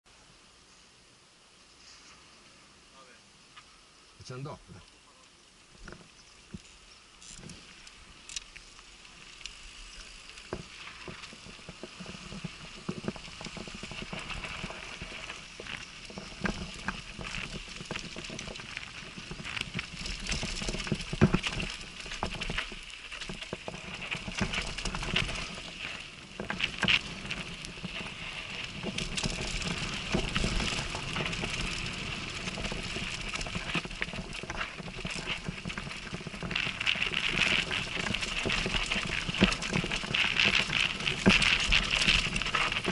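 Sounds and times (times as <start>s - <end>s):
tyres crunching over dirt: 5.7s - 42.9s
bike rattling: 5.8s - 42.9s.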